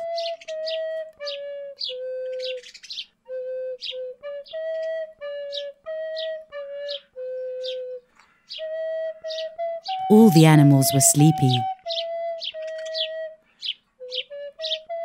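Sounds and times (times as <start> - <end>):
slow flute melody: 0.0 - 2.6, 3.3 - 13.5, 14.1 - 15.0.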